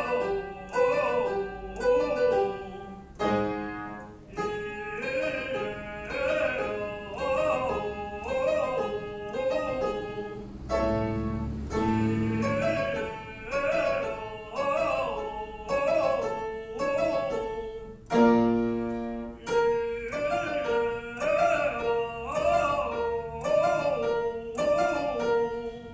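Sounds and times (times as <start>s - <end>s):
classical voice singing exercise: 0.0s - 25.9s
piano chords: 0.0s - 25.9s.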